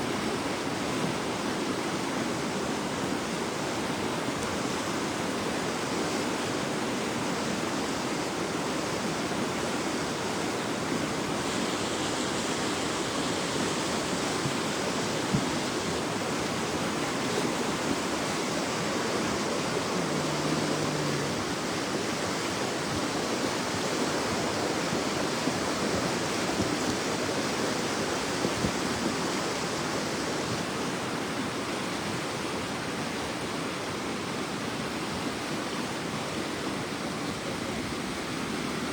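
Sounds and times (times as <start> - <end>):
floodwater rushing: 0.0 - 32.6.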